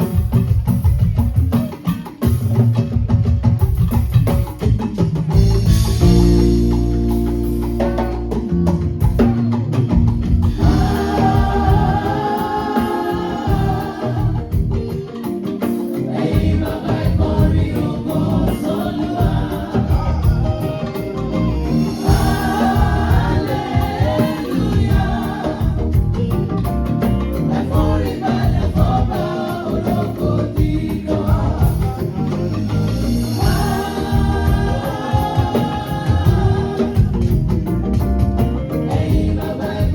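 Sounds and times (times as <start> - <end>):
drums and bass: 0.0 - 39.9
choir singing gospel: 5.4 - 39.9.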